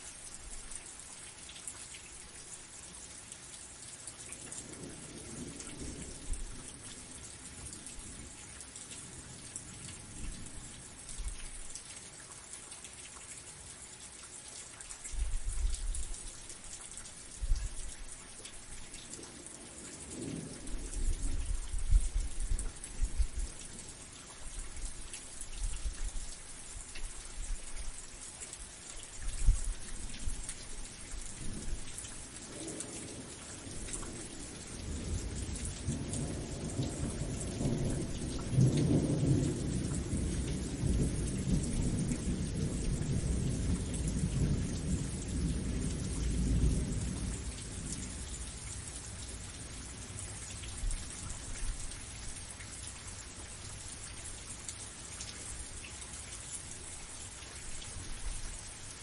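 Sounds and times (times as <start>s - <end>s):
steady rain hissing: 0.0s - 59.0s
low rumble of thunder: 4.3s - 11.7s, 15.0s - 28.0s, 28.8s - 55.6s.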